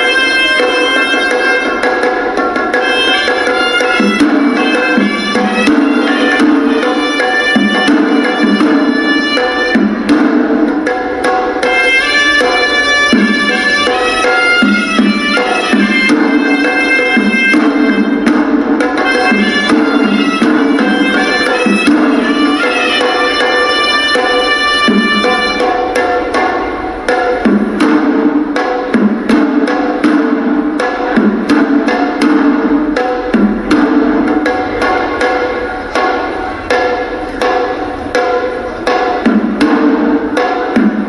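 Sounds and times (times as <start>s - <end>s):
drums beating fast rhythm: 0.0s - 41.0s
reedy shawm melody: 0.0s - 41.0s.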